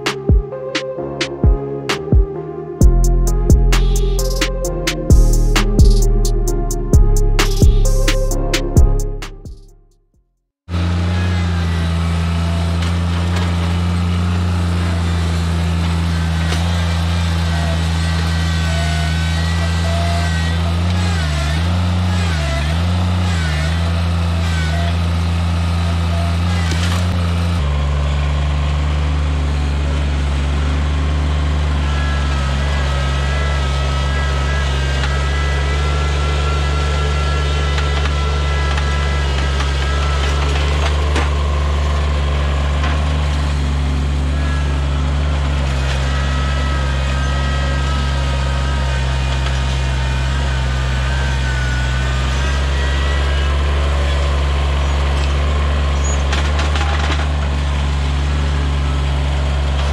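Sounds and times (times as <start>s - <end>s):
tractor diesel engine under load: 0.0s - 9.4s, 10.7s - 59.9s
hydraulic whine: 10.7s - 59.9s.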